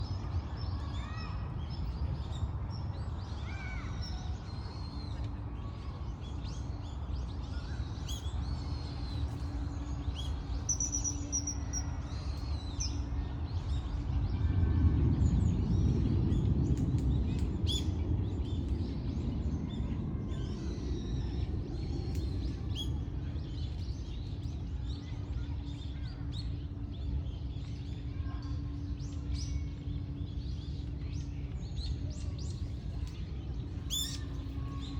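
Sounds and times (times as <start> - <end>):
low background rumble: 0.0 - 34.9.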